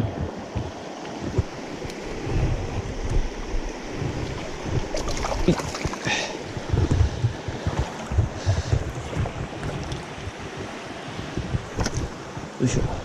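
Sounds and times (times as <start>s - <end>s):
mountain stream running: 0.0s - 13.0s
wind buffeting microphone: 0.0s - 13.0s.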